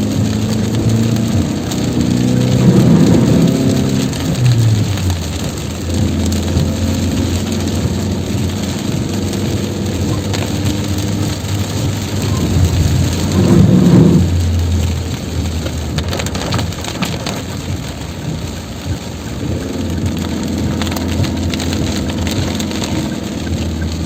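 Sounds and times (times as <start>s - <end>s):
heavy rain pouring: 0.0s - 24.0s
low rumble: 0.0s - 24.0s
rain drops ticking: 0.0s - 24.0s.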